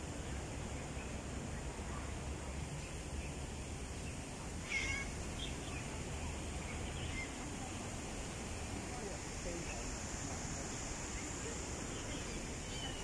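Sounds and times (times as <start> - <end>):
faint chirps: 0.1 - 13.0.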